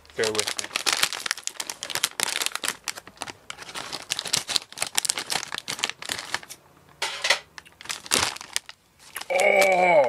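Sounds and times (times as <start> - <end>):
plastic snack bag crinkling: 0.0 - 6.6, 7.5 - 9.9.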